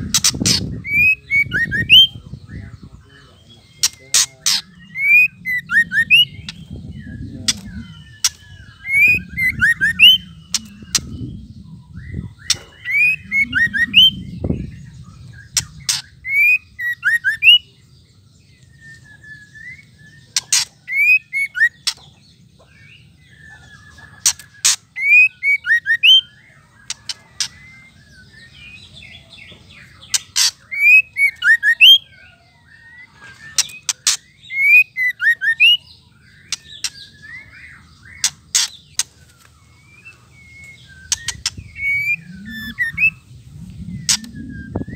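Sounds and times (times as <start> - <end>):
bird chatter with whistled notes: 0.0 - 44.9.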